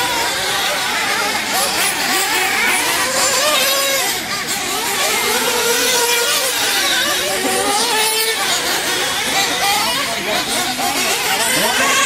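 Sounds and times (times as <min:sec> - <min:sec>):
high-pitched engines whining: 0:00.0 - 0:12.0.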